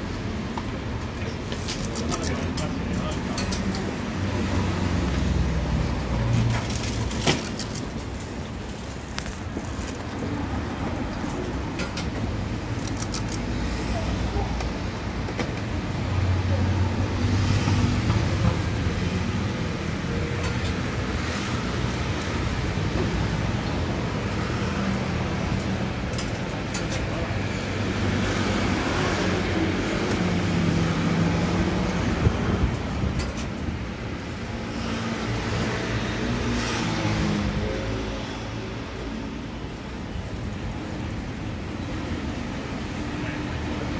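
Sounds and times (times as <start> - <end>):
busy street background din: 0.0 - 43.9.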